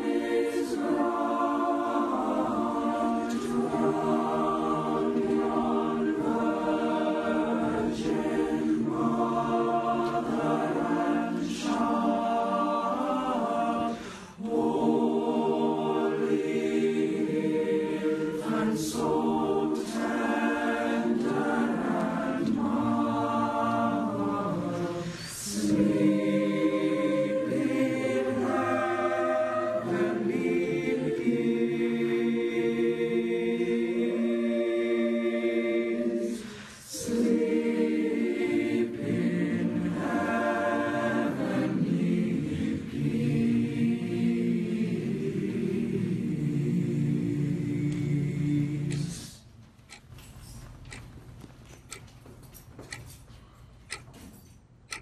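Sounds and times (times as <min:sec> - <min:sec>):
boys' choir singing a hymn: 0:00.0 - 0:50.0.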